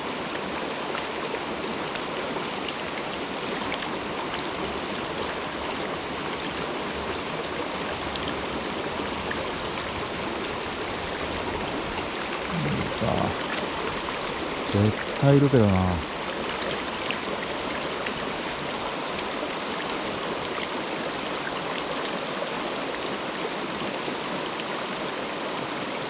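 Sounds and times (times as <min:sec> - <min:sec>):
stream water over rocks: 0:00.0 - 0:26.0.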